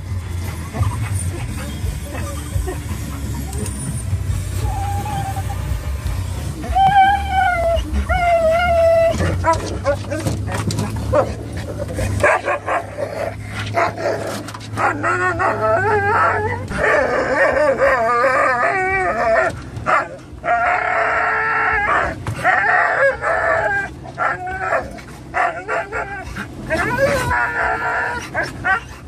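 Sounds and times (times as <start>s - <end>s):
dogs yipping and barking: 0.0s - 29.0s
dog whining and howling: 0.7s - 6.0s, 6.6s - 29.0s.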